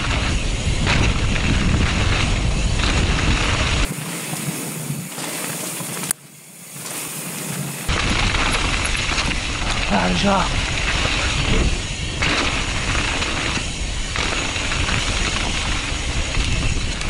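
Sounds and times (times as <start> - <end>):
bike tyres rumbling over dirt: 0.0 - 17.0
wind buffeting a camera: 0.0 - 17.0.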